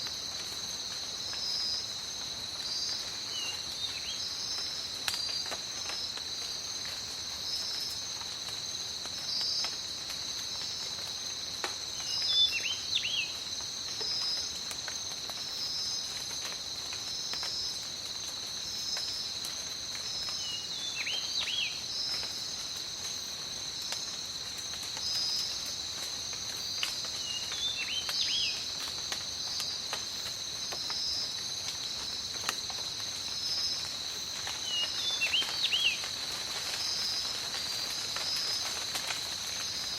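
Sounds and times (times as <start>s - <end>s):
high insect chorus: 0.0s - 39.9s
rain pattering: 0.0s - 39.9s.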